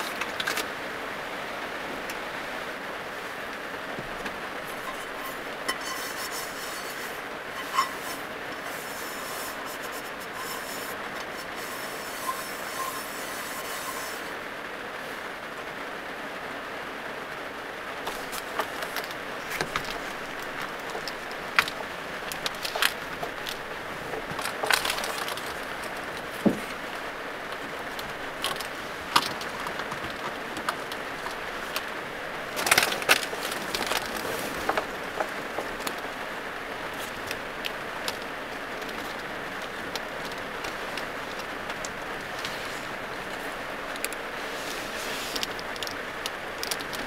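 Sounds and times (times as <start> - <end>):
clicks and rustles of window shades: 0.0 - 0.8, 3.9 - 14.4, 18.0 - 47.0
rain on a van roof: 0.0 - 47.0.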